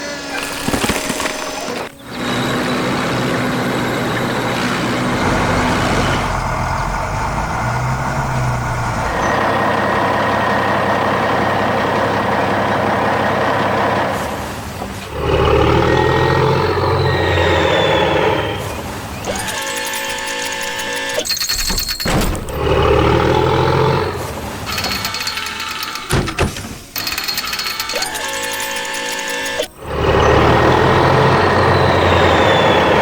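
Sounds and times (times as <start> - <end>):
construction machine engine: 0.0 - 33.0
heavy truck engine: 0.0 - 33.0.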